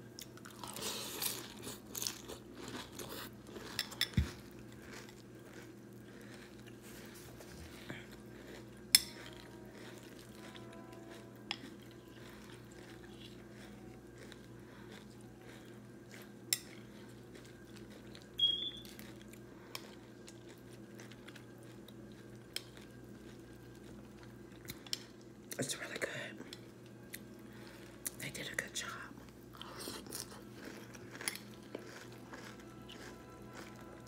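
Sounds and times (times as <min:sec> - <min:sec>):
steady low hum: 0:00.0 - 0:34.0
chewing crunchy cereal: 0:00.1 - 0:34.0.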